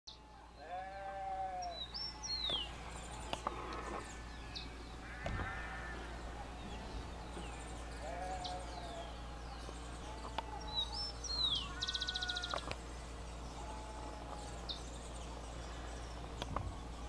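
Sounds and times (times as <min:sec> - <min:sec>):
birds chirping and whistling: 0:00.1 - 0:17.0
farm animal bleating: 0:00.2 - 0:12.8, 0:13.4 - 0:14.8.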